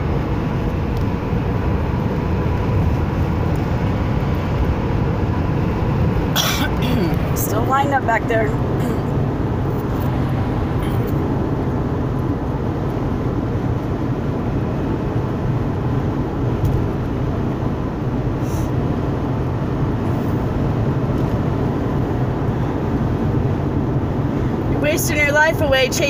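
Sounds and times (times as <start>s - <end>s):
car road noise rumble: 0.0s - 26.0s.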